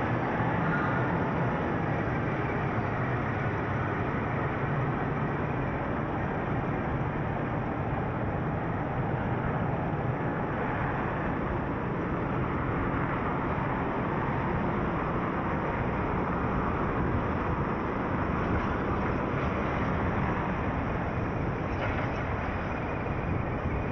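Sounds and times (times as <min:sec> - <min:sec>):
car road noise rumble: 0:00.0 - 0:23.9.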